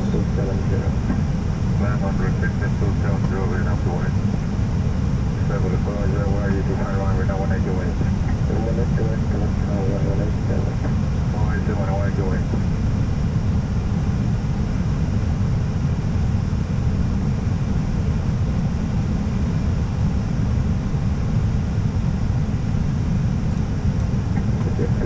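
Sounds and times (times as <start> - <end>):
airflow and engine rushing: 0.0 - 25.0.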